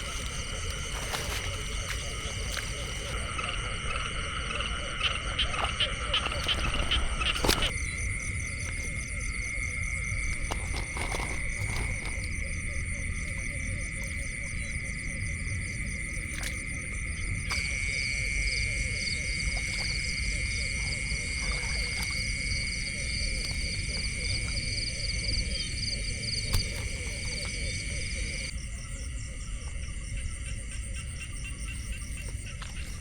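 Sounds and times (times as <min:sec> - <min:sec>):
insects trilling: 0:00.0 - 0:33.0
loud insect trill: 0:00.0 - 0:33.0.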